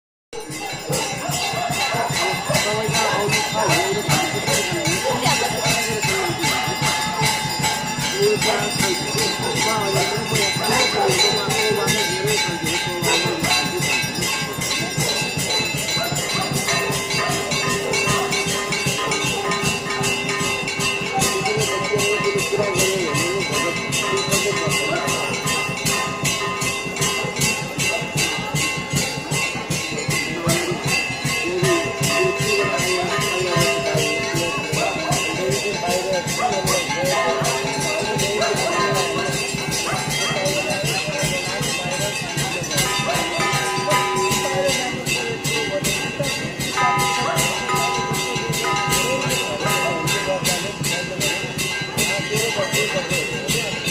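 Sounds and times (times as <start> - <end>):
bells and metal percussion: 0.4 - 53.9
drum beat: 0.4 - 53.9
voices chanting: 0.4 - 53.9.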